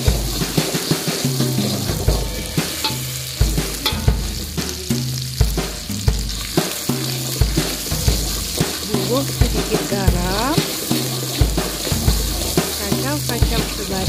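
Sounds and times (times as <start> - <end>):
spatula clicking on pan: 0.0 - 4.1, 6.3 - 14.0
metal spatula scraping a wok: 0.0 - 4.6, 6.2 - 14.0
low repeating beat: 0.0 - 14.0
paste sizzling in hot oil: 0.0 - 14.0.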